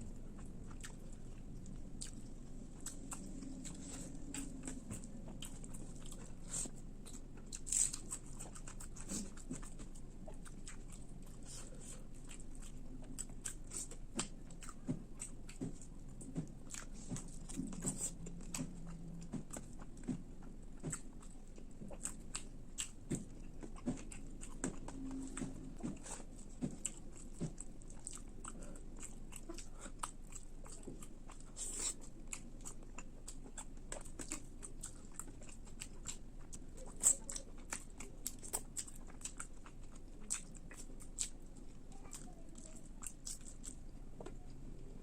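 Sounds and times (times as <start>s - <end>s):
person chewing: 0.0s - 44.6s.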